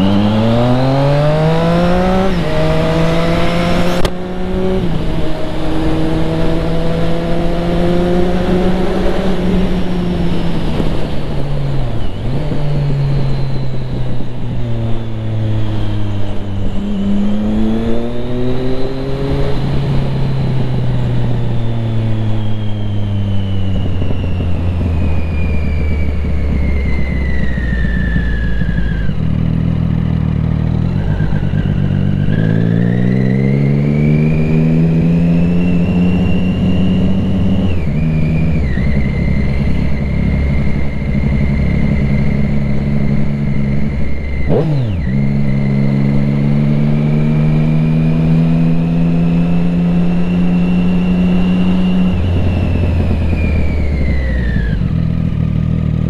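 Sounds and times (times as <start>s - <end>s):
wind noise: 0.0s - 55.9s
motorcycle engine revving: 0.0s - 56.0s.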